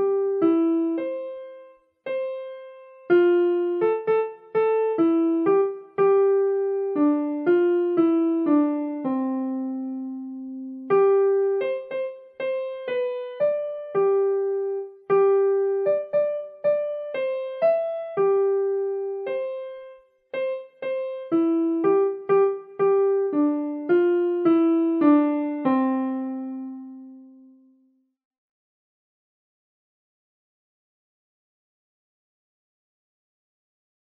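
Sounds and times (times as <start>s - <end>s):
solo piano slow melody: 0.0s - 28.0s.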